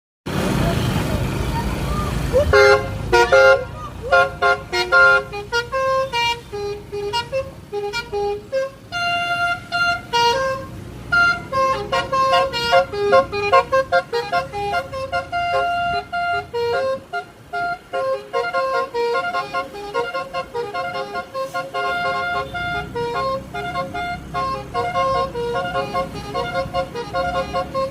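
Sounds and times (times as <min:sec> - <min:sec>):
multi-tone car horn tune: 0:02.4 - 0:27.9.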